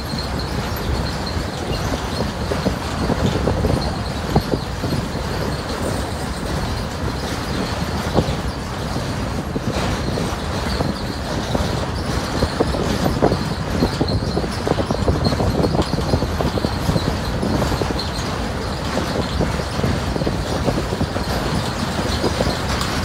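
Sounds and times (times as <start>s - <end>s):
knocks and clanks: 0.0s - 23.0s
train wheels rumbling on rails: 0.0s - 23.0s.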